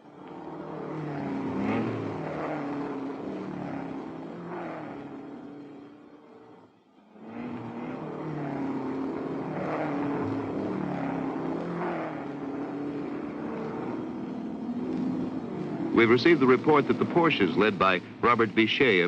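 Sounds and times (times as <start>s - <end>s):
racing cars passing: 0.0s - 19.0s.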